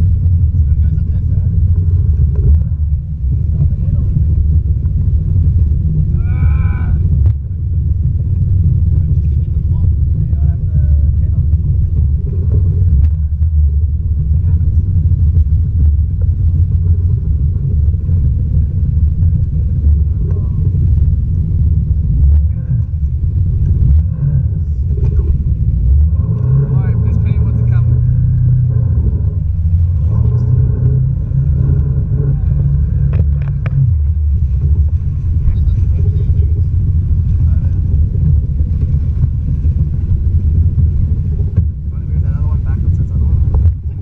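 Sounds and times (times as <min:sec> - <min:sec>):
jet ski engine rumbling: 0:00.0 - 0:44.0
wind buffeting microphone: 0:00.0 - 0:44.0.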